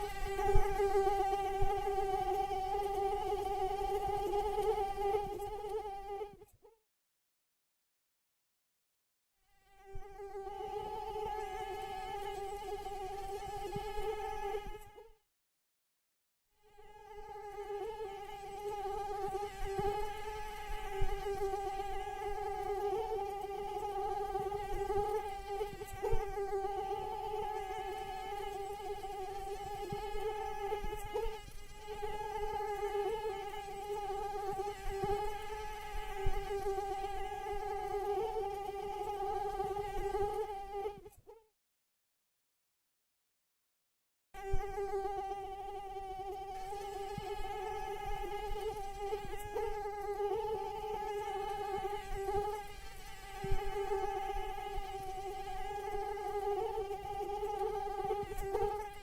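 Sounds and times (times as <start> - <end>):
mosquito whine: 0.0 - 6.6, 9.4 - 15.2, 16.6 - 41.5, 44.4 - 59.0.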